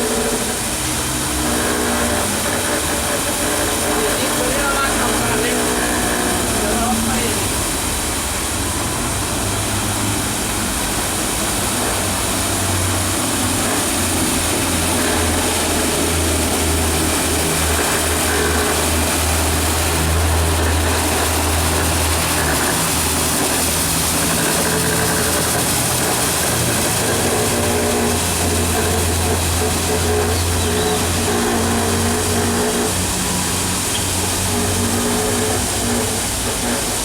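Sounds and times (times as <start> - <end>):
floor scrubber motor hum: 0.0 - 37.0.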